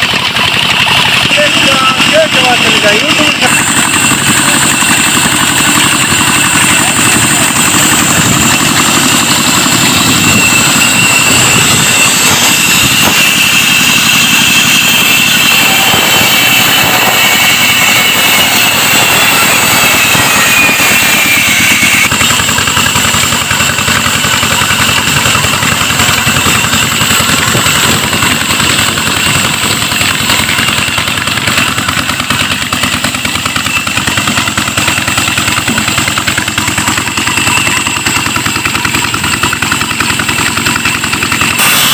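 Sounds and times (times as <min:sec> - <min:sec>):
diesel engine beat: 0:00.0 - 0:41.9
saw machine whining: 0:00.0 - 0:41.9.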